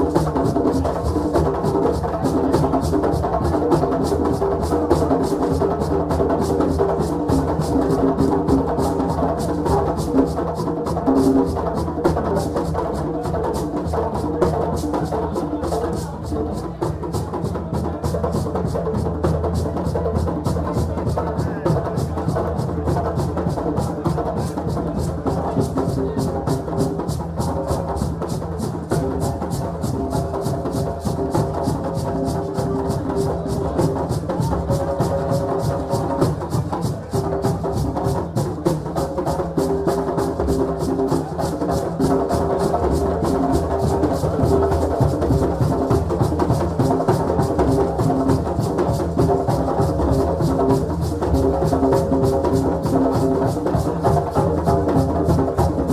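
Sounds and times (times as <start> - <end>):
drums playing fast beat: 0.0 - 55.9.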